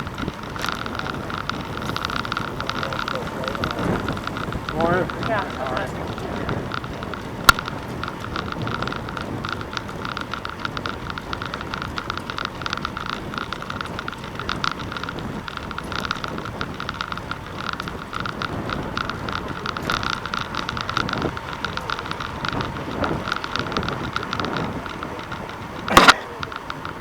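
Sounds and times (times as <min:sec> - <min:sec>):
fast crackling rattle: 0:00.0 - 0:27.0
wind and road noise: 0:00.0 - 0:27.0.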